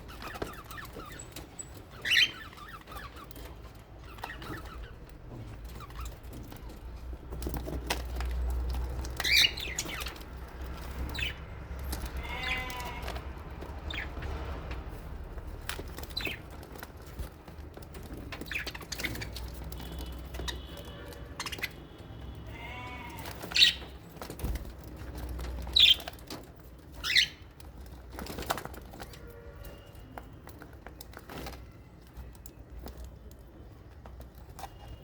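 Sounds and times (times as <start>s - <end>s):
birds chattering and chirping: 0.0s - 35.0s.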